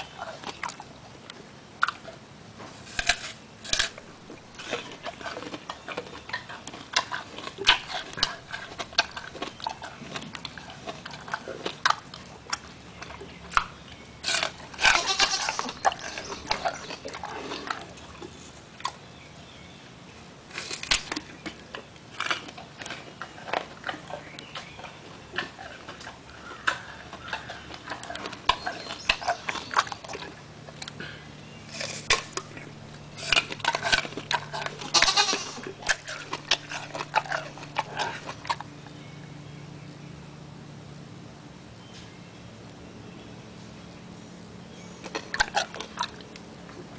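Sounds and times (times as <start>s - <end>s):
gorilla chewing apple: 0.0s - 39.4s, 44.4s - 46.9s.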